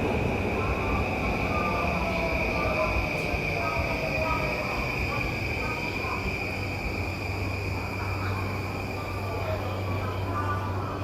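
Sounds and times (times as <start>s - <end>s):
faint train running: 0.0s - 11.0s.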